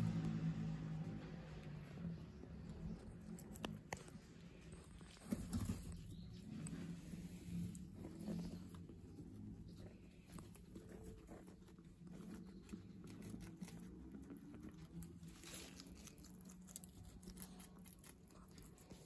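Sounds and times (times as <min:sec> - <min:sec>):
guinea pigs chewing leaves: 0:00.0 - 0:19.0.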